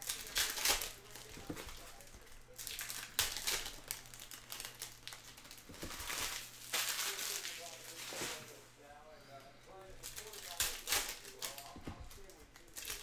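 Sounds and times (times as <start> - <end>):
foil wrappers crinkling: 0.0 - 8.7, 9.7 - 13.0.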